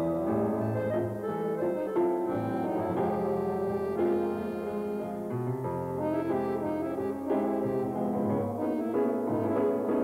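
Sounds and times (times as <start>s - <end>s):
held keyboard chords: 0.0s - 10.0s.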